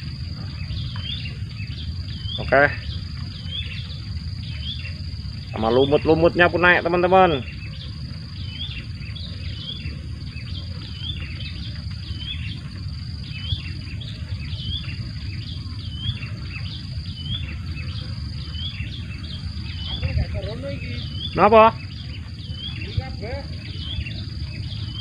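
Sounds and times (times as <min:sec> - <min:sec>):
bird chirping: 0:00.0 - 0:25.0
high insect drone: 0:00.0 - 0:25.0
wind rumble on microphone: 0:00.0 - 0:25.0.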